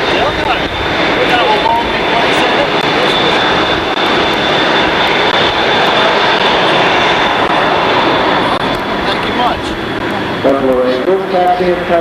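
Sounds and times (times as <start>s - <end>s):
high-pitched engine whine: 0.0s - 12.0s
jet engines running: 0.0s - 12.0s.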